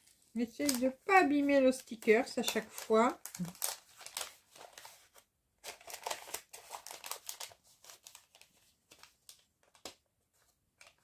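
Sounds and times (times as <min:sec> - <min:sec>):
paper sachet crinkling: 0:00.0 - 0:11.0.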